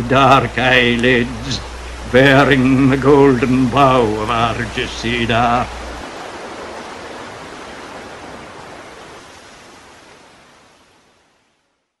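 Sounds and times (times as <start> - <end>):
steady hiss: 0.0 - 11.7.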